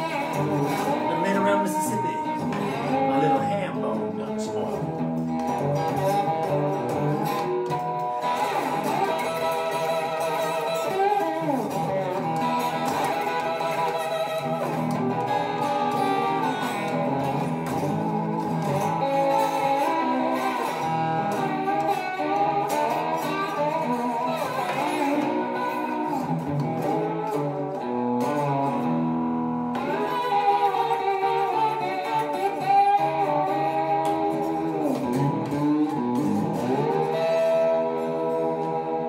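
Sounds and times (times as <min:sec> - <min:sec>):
slide electric guitar: 0:00.0 - 0:39.0.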